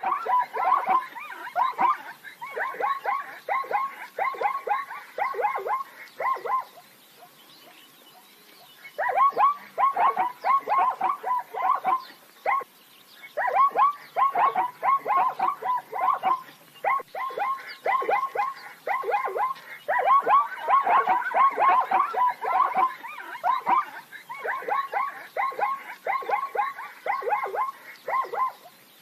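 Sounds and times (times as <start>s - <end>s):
zebra barking: 0.0s - 7.8s, 8.7s - 12.7s, 13.3s - 28.8s.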